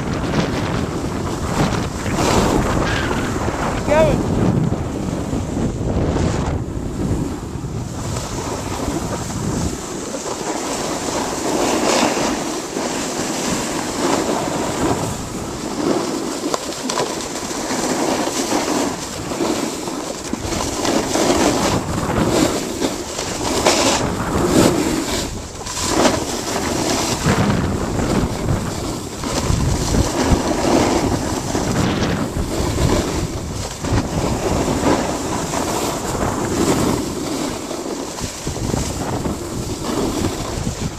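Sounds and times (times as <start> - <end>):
wind rushing over microphone: 0.0 - 16.5, 17.2 - 40.9
ski edges carving snow: 0.0 - 40.9.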